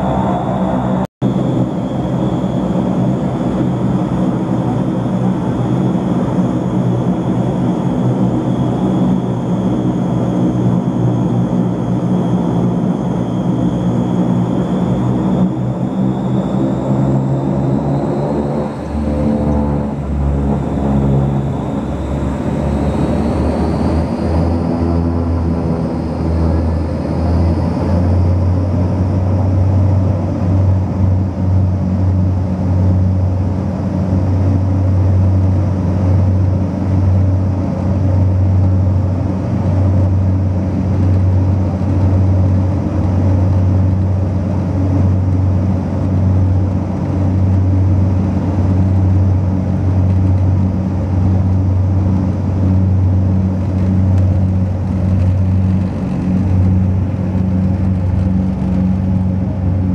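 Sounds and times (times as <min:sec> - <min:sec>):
faint engine hum: 0:00.0 - 0:59.9
low propeller drone: 0:00.0 - 0:59.9.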